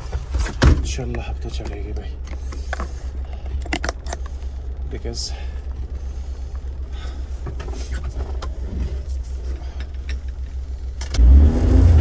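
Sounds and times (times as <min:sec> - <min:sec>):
engine drone inside cabin: 0:00.0 - 0:12.0.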